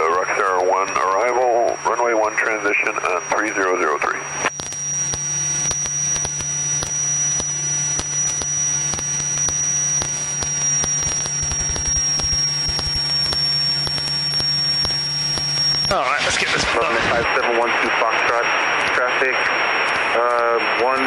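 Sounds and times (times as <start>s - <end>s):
electrical hum: 0.0s - 21.0s
high whine: 0.0s - 21.0s
radio static crackling: 0.0s - 21.0s.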